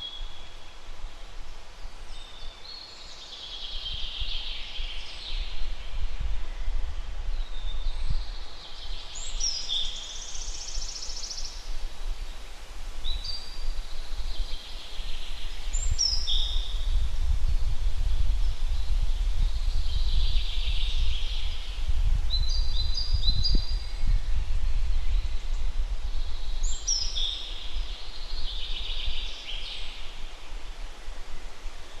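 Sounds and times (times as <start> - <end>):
songbird singing: 0.0 - 32.0.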